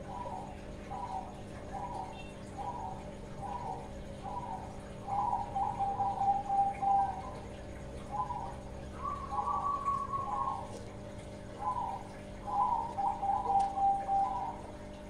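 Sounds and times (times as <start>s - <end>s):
dove cooing: 0.0s - 14.9s.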